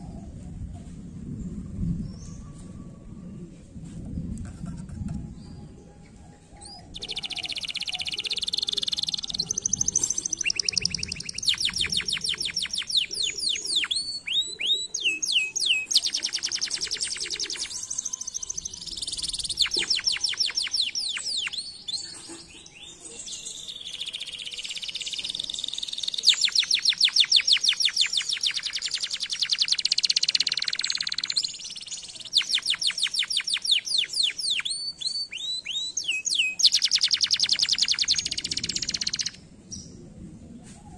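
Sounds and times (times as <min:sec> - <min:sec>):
canary singing trills: 0:05.4 - 0:39.9.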